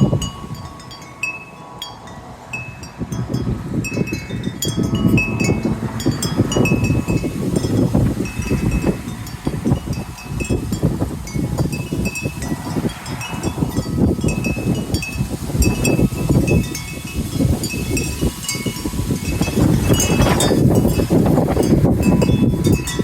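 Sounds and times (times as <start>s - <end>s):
gusting wind rumble: 0.0s - 23.0s
wind chimes ringing: 0.0s - 23.0s.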